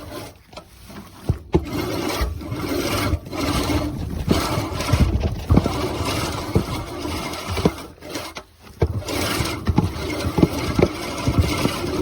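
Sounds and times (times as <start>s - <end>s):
push reel mower whirring: 0.0s - 12.0s.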